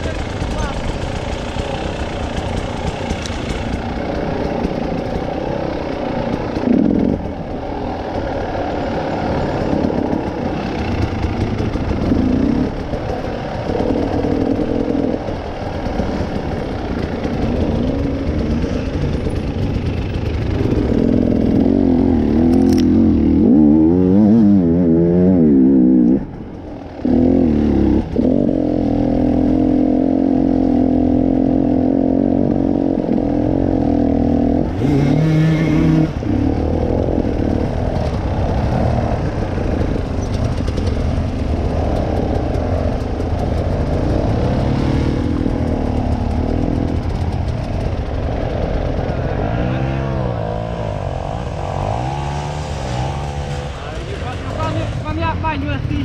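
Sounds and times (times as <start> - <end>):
dirt bike engine: 0.0 - 56.0.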